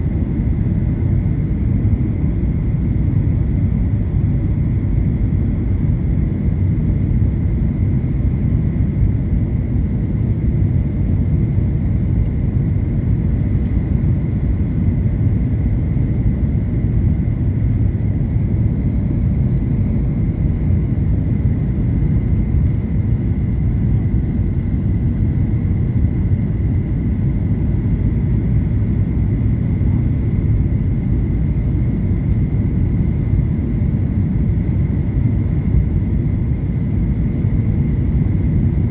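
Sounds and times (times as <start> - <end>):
airliner engines and airflow rumble: 0.0 - 38.9
faint steady whine: 0.0 - 38.9.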